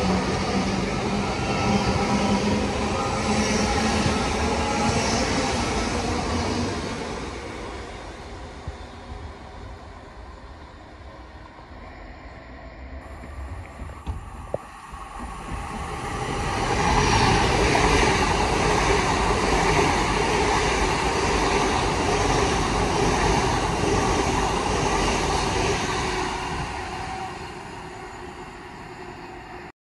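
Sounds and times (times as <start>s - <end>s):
high-speed train passing: 0.0s - 29.7s.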